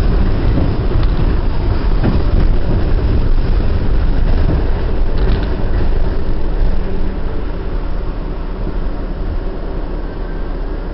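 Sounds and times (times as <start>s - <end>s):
train wheels rumbling on rail: 0.0s - 10.9s.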